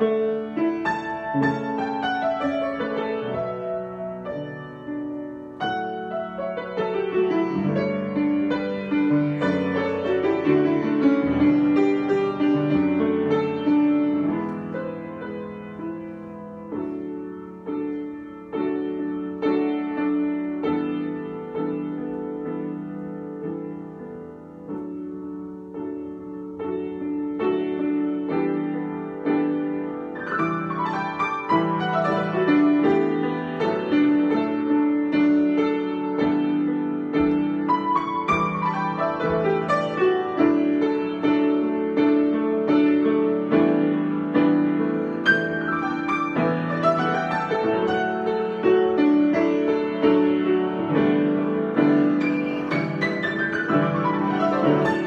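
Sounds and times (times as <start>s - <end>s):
solo piano improvisation: 0.0s - 55.0s.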